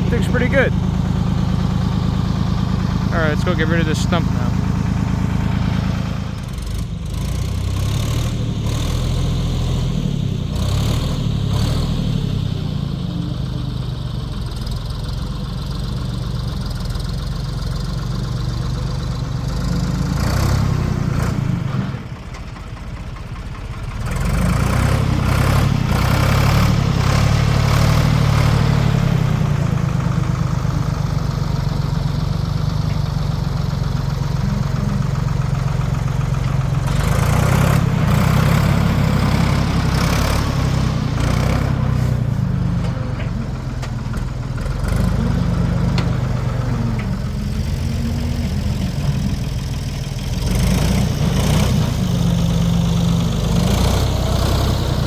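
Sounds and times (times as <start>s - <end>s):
backhoe diesel engine: 0.0s - 55.0s.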